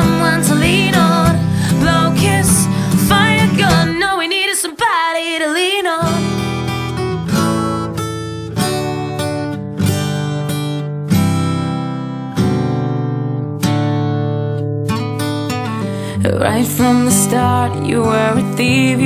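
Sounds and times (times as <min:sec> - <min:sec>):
acoustic guitar strumming chords: 0:00.0 - 0:04.2, 0:06.0 - 0:19.0.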